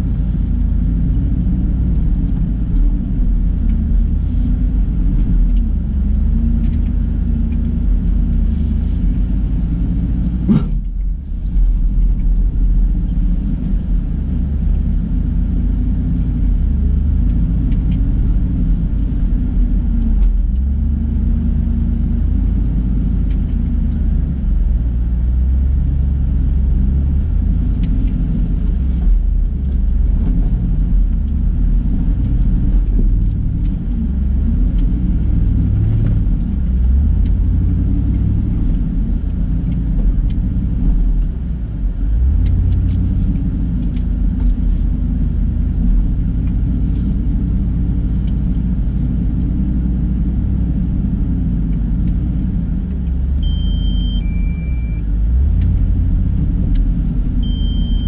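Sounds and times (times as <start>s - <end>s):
engine rumbling at low revs: 0.0s - 58.0s.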